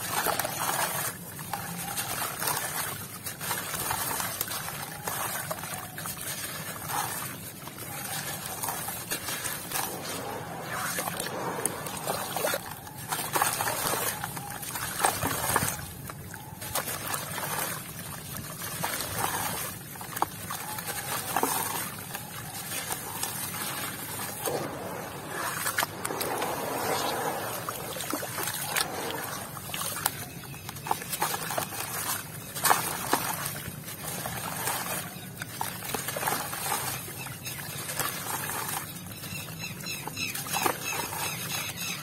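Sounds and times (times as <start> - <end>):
water sloshing and splashing: 0.0 - 42.0.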